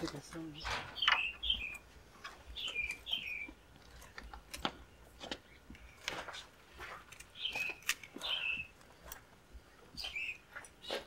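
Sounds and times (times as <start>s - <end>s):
small bird chirping: 0.4s - 5.7s, 7.2s - 11.0s.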